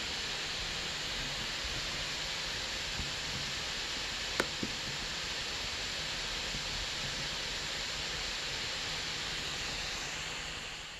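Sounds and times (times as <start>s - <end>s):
cooling fan hiss: 0.0s - 10.9s.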